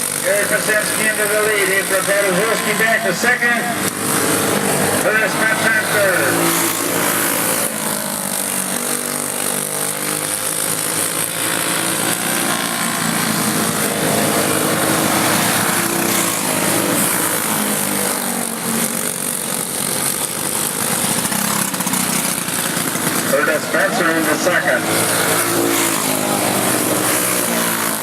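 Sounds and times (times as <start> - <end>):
racing kart engines: 0.0 - 28.0.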